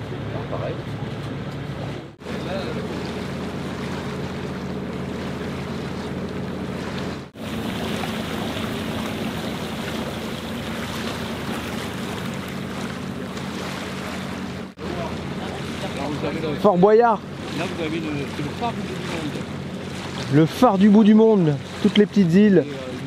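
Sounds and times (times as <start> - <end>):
boat engine droning: 0.0 - 23.0
water rushing: 0.0 - 23.0
wind: 0.0 - 23.0.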